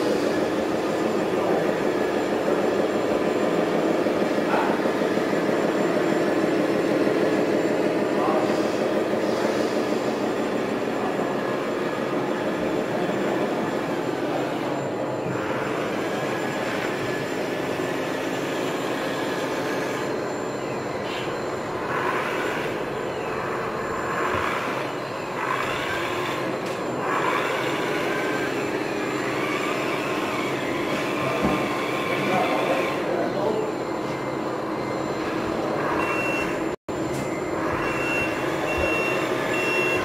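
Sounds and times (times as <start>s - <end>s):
electric motor whines: 0.0s - 40.0s
steady mechanical hum: 0.0s - 40.0s.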